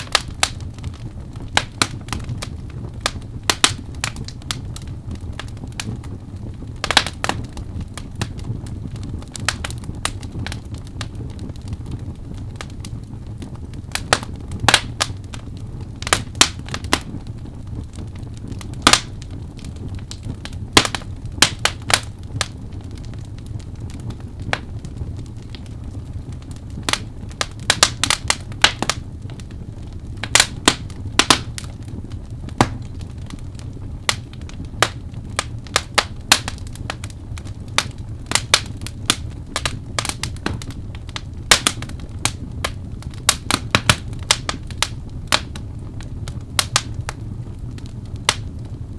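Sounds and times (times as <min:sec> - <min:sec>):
fire low rumble: 0:00.0 - 0:48.9
fire pops and snaps: 0:00.0 - 0:48.9.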